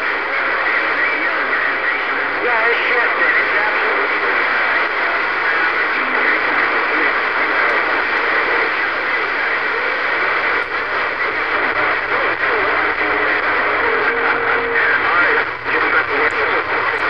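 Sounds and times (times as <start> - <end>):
faint unreadable voices: 0.0 - 17.0
radio static hiss: 0.0 - 17.0.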